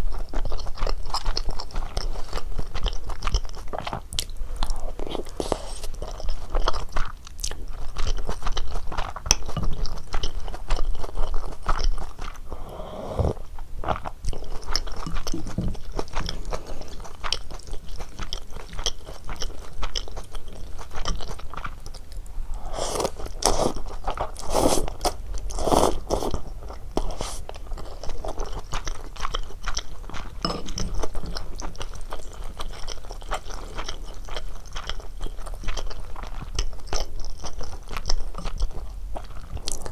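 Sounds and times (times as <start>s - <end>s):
chewing and crunching: 0.0s - 12.6s, 13.2s - 39.9s.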